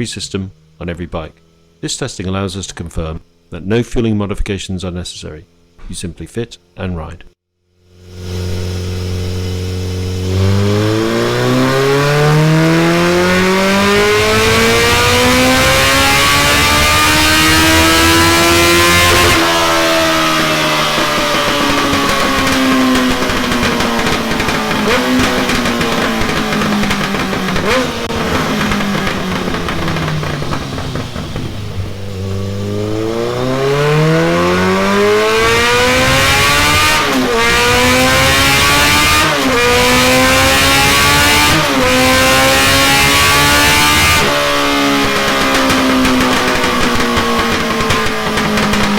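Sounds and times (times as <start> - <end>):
motorcycle engine revving: 0.0 - 3.8, 6.6 - 48.9.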